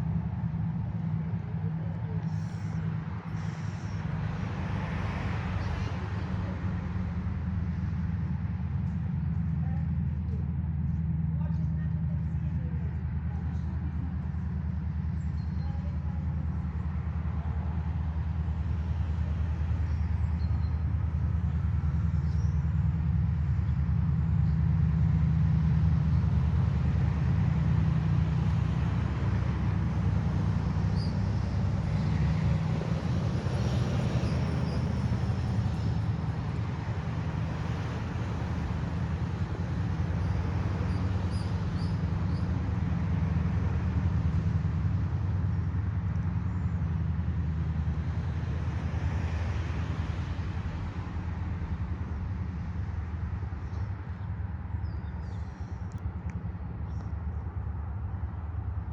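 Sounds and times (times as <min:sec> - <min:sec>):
diesel locomotive engines humming: 0:00.0 - 0:58.9.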